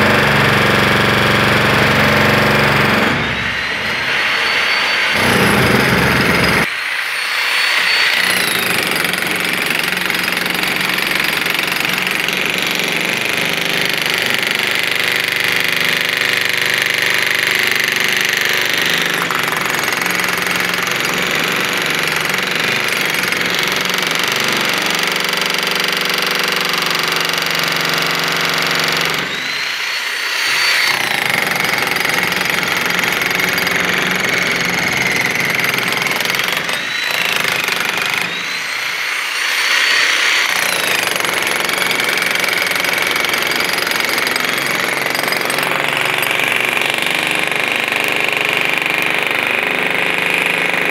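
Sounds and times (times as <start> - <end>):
demolition hammer breaking concrete: 0.0 - 6.7, 8.1 - 29.7, 30.6 - 38.7, 40.4 - 50.9.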